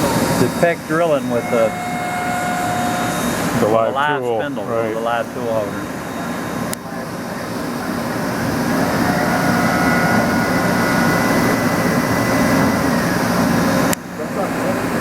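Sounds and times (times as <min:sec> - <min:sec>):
high machine whine: 0:00.0 - 0:15.0
machine noise: 0:00.0 - 0:15.0.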